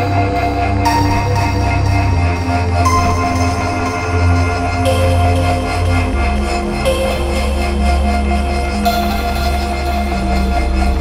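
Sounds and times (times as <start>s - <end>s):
deep synthesizer bass drone: 0.0s - 11.0s
sustained synthesizer tones: 0.0s - 11.0s.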